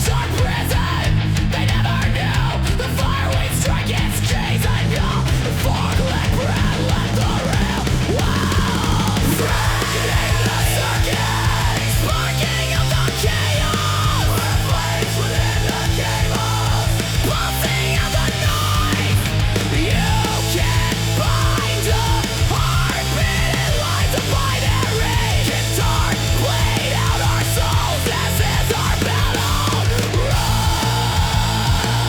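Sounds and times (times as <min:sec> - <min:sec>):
heavy industrial rock song: 0:00.0 - 0:32.0.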